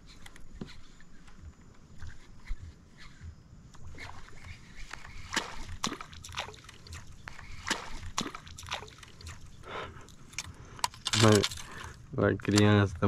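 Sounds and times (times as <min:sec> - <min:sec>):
water splashing and sloshing: 0:00.0 - 0:12.7.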